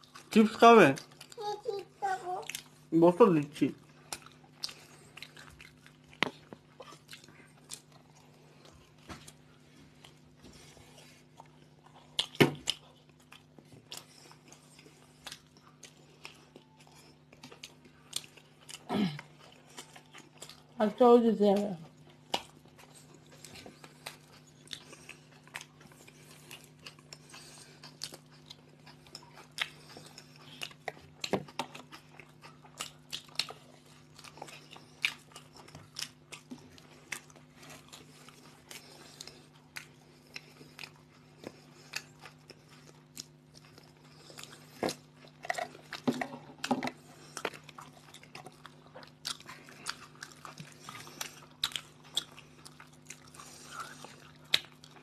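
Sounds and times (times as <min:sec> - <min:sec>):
people chewing sandwiches: 0:00.0 - 0:55.0.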